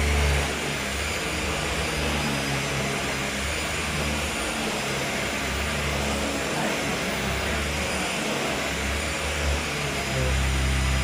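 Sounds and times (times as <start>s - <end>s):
upright vacuum cleaner running: 0.0s - 11.0s.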